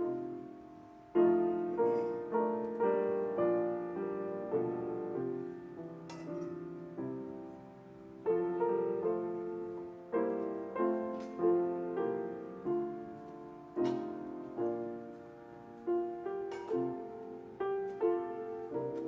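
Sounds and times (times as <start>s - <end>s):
slow gentle piano piece: 0.0s - 19.0s.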